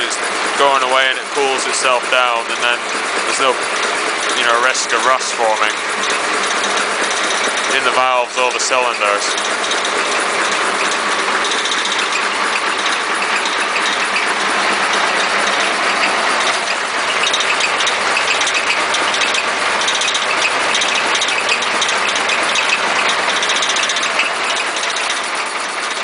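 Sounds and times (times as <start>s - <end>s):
air compressor clattering: 0.0s - 26.0s.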